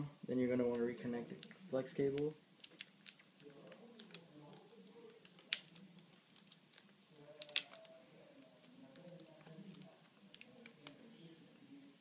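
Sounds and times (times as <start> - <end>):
fingers clicking and tapping laptop: 0.7 - 11.0.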